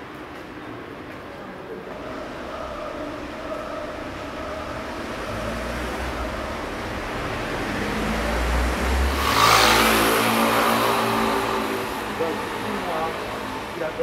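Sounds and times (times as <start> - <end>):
vehicle passing with engine revving: 2.0 - 14.0.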